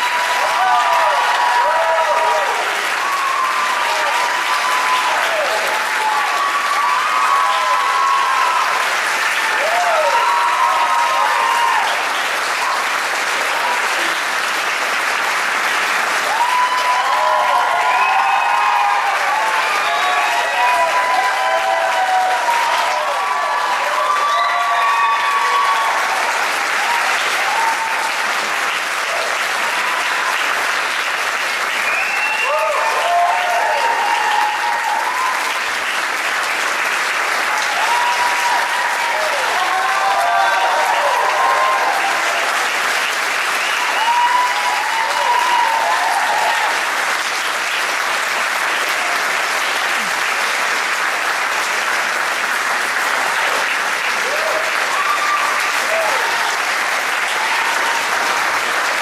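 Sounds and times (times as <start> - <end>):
whoops and cheers: 0.0 - 13.0, 16.2 - 30.6, 31.7 - 35.8, 37.4 - 42.8, 43.4 - 47.3, 48.7 - 50.2, 53.4 - 59.0
audience applauding: 0.0 - 59.0.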